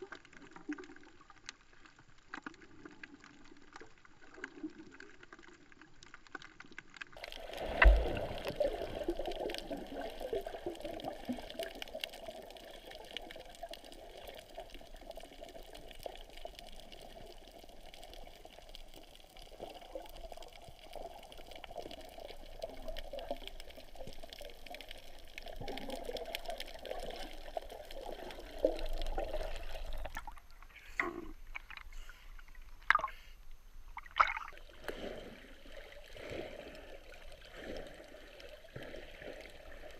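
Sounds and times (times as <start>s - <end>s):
muffled water sloshing underwater: 0.0s - 39.9s.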